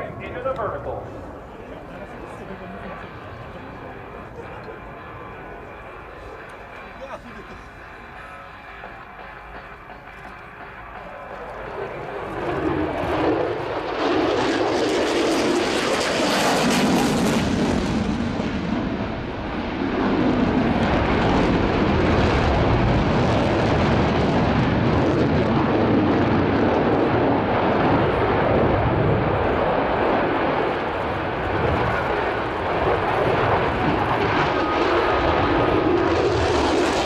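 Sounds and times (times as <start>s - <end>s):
jet engine roar: 0.0s - 37.0s.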